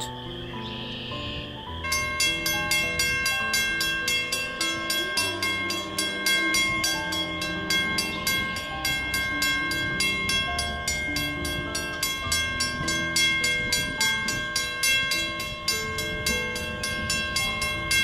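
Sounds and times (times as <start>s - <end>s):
crossing warning bell ringing: 0.0s - 18.0s.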